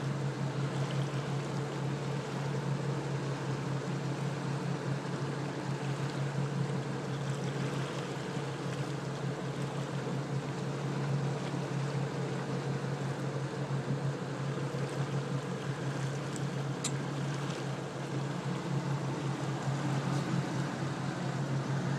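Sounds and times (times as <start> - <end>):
boat motor humming: 0.0 - 21.9
water noise: 0.0 - 21.9.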